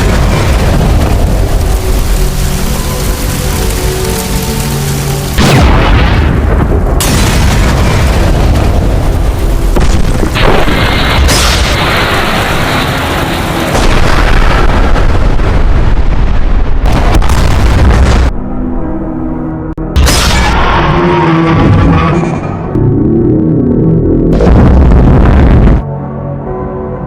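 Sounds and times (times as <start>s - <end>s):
explosion blasts: 0.0s - 3.4s, 5.3s - 18.4s, 19.9s - 25.8s
background music: 0.0s - 14.3s, 18.3s - 27.0s.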